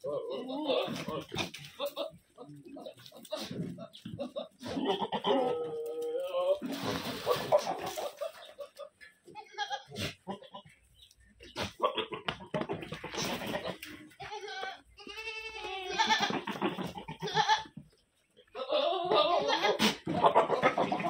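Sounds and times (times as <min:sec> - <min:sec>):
goats bleating: 0:00.0 - 0:10.8, 0:11.5 - 0:17.8, 0:18.5 - 0:21.0.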